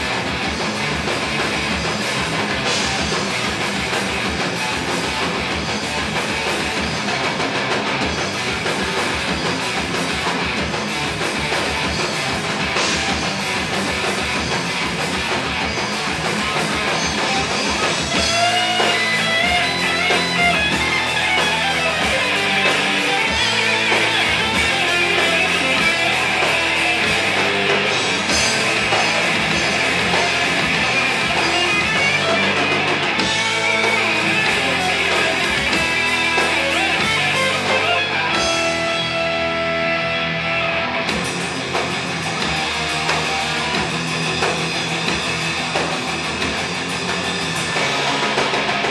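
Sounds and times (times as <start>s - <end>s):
metal band playing live: 0.0s - 48.9s.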